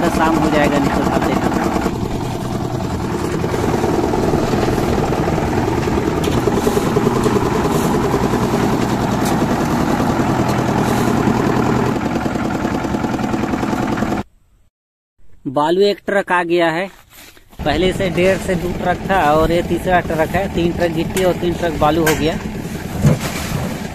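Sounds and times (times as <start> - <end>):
diesel engine running: 0.0 - 14.3, 17.6 - 23.9.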